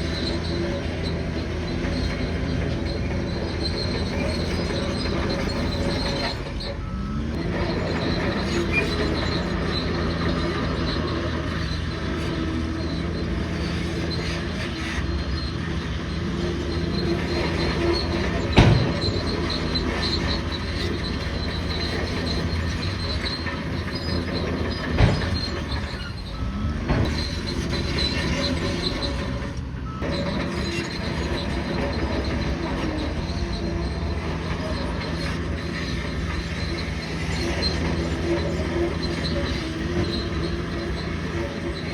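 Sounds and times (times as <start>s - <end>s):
bulldozer engine running: 0.0s - 41.9s
crawler tracks squealing and clanking: 0.0s - 41.9s.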